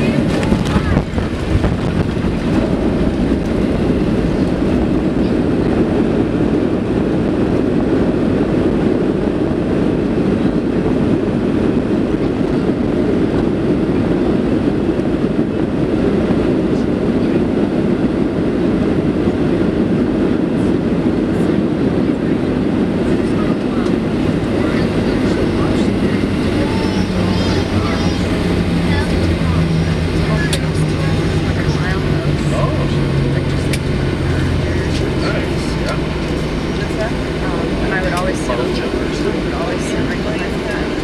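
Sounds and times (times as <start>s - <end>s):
jet engines roaring: 0.0s - 41.0s
wheels rumbling on runway: 0.0s - 41.0s.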